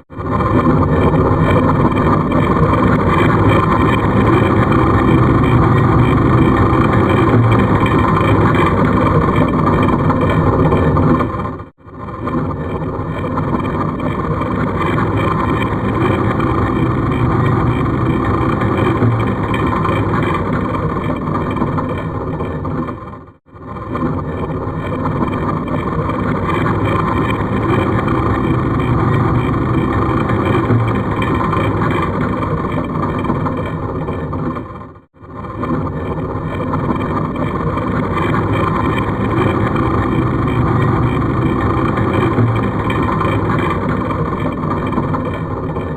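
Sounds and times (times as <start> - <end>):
heavy stone grinding and scraping: 0.1 - 45.9.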